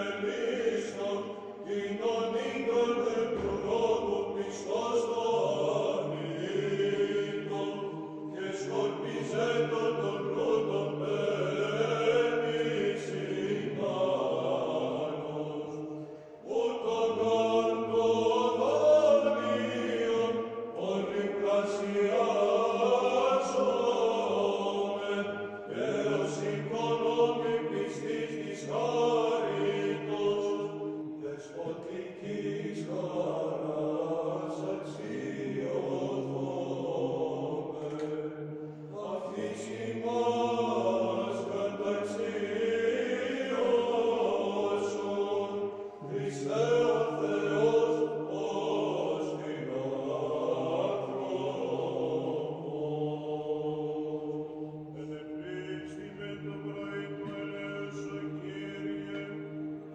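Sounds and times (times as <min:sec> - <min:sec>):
held low vocal drone: 0:00.0 - 0:59.9.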